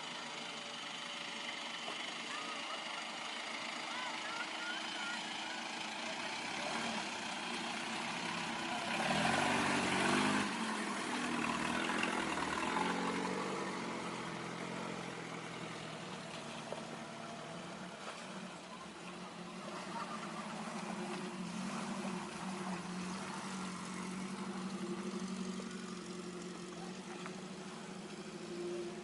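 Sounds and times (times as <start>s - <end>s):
off-road vehicle engine running: 0.0s - 29.0s.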